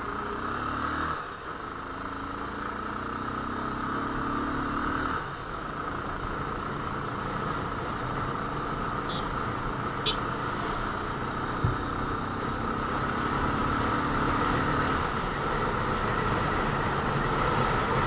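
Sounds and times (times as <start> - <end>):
motorcycle engine running: 1.4 - 18.0.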